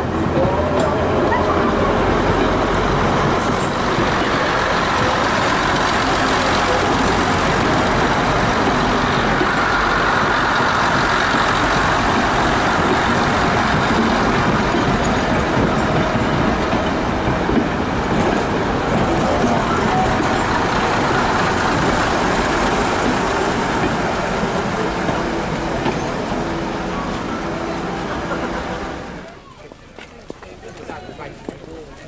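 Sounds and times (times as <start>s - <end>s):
train diesel engines running: 0.0s - 32.0s.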